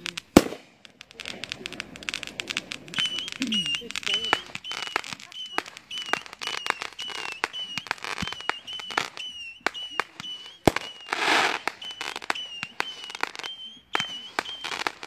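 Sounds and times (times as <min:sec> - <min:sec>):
fireworks crackling burst: 0:00.0 - 0:15.0
fireworks popping: 0:00.0 - 0:15.0
fireworks whistles: 0:00.0 - 0:15.0.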